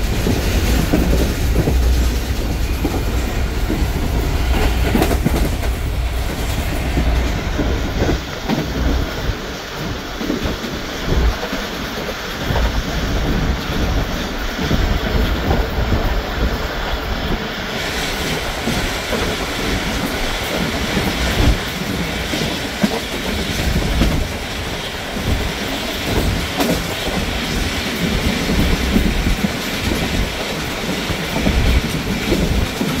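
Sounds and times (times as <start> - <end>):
train wheels rumbling on rails: 0.0 - 33.0
wheels clacking over rail joints: 0.0 - 33.0.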